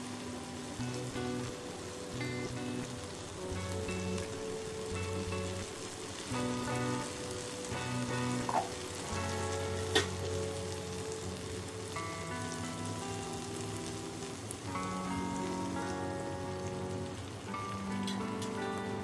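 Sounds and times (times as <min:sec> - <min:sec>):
background music of held chords: 0:00.0 - 0:19.0
food sizzling in a frying pan: 0:00.0 - 0:19.0.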